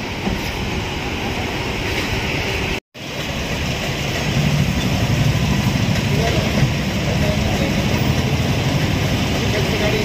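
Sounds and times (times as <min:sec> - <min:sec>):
road traffic roar: 0:00.0 - 0:10.0.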